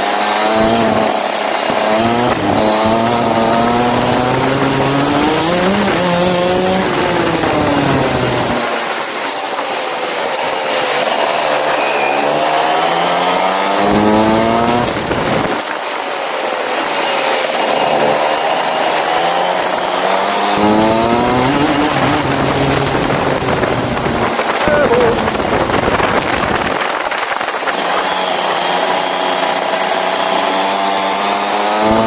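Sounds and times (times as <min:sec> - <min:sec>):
go-kart engine accelerating: 0:00.0 - 0:32.0.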